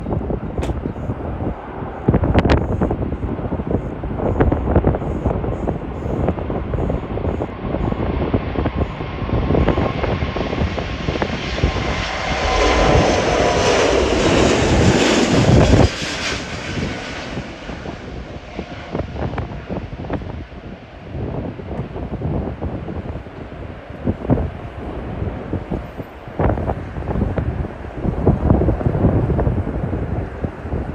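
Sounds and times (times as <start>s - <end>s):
jet engines passing: 0.0s - 30.9s
wind buffeting microphone: 0.0s - 30.9s.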